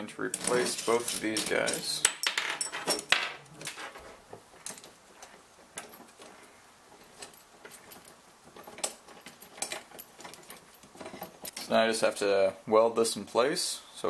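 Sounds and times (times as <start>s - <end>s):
metal bolts and nuts clinking: 0.0s - 12.3s.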